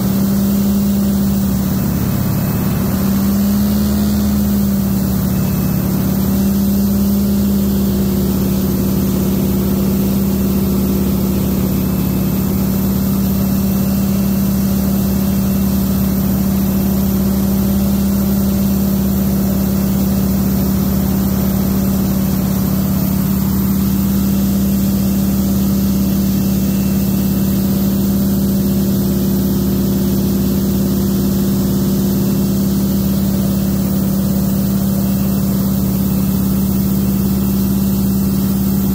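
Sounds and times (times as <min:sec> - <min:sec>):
propeller plane engine drone: 0:00.0 - 0:38.9.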